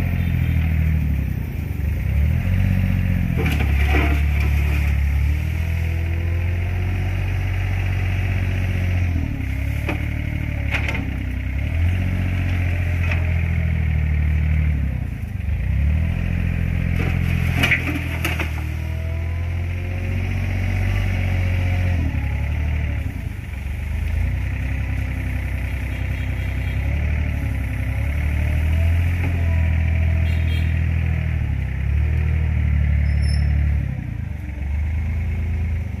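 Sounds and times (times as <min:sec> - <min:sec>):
wheel loader diesel engine: 0:00.0 - 0:36.0.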